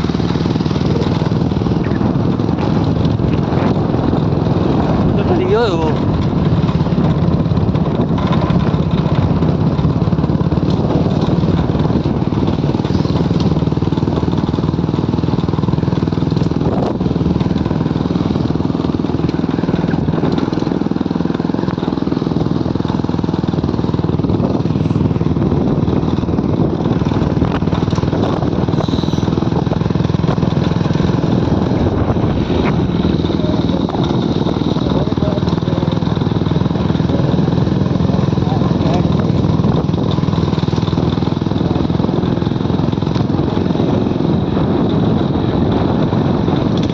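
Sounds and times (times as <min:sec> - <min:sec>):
motorcycle engine running: 0:00.0 - 0:46.9
road noise: 0:00.0 - 0:46.9.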